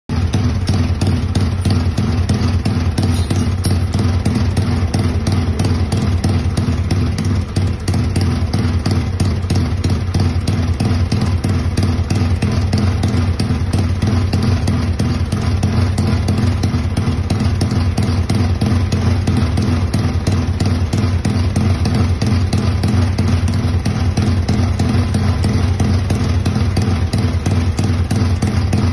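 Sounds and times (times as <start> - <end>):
motorcycle engine idling: 0.1 - 28.9.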